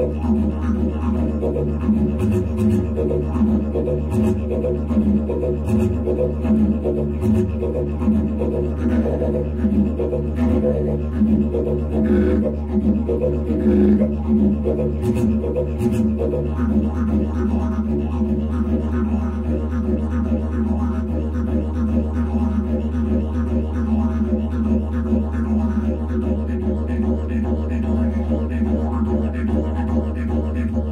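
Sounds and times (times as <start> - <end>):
didgeridoo drone: 0.0 - 30.9.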